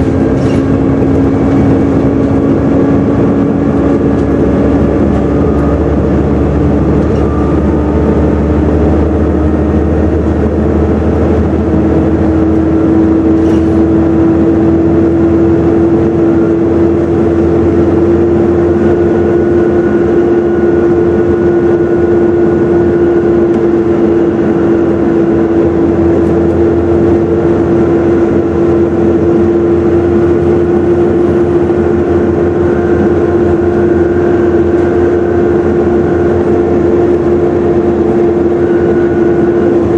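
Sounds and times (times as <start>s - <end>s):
bus engine running: 0.0s - 39.9s
loud engine whine: 0.0s - 39.9s.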